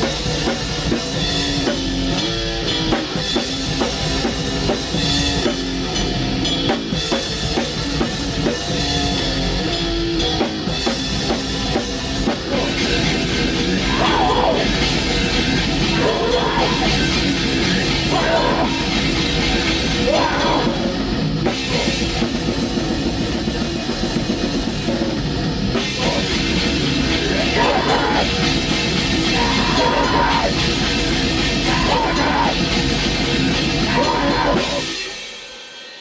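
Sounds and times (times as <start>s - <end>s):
metal band playing: 0.0s - 36.0s.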